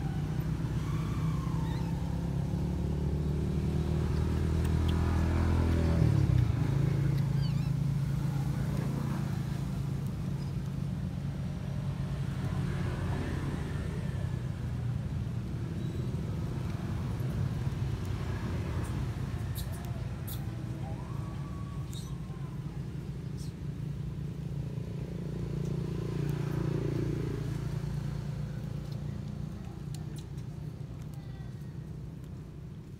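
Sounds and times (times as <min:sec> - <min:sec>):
engine humming: 0:00.0 - 0:32.9.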